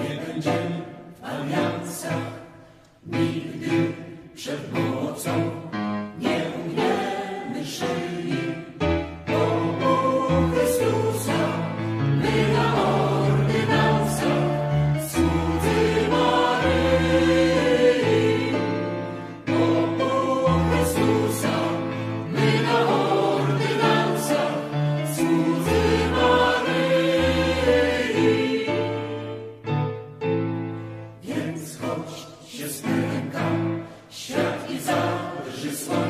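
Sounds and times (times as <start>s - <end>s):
choir singing held notes: 0.0s - 29.9s, 30.8s - 36.0s.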